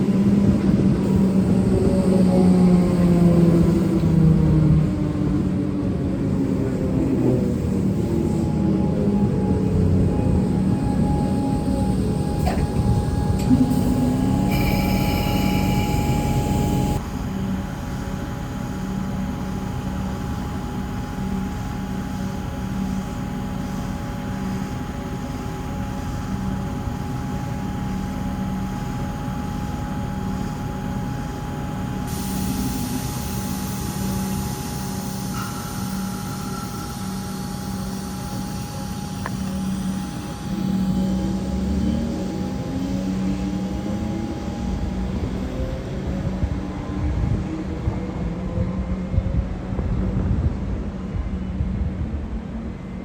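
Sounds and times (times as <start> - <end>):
electric train running: 0.0 - 53.0.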